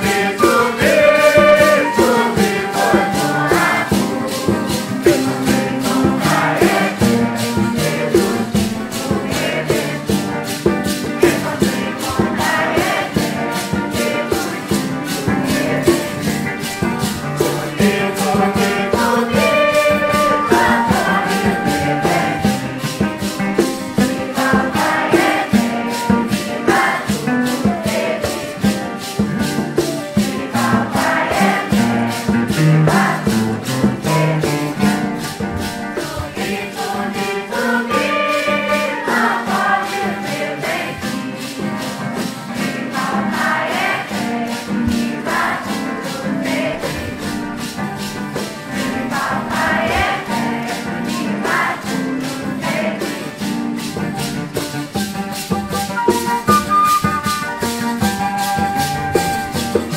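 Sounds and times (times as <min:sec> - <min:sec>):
maraca rhythm: 0:00.0 - 0:59.9
voices singing together: 0:00.0 - 0:59.9.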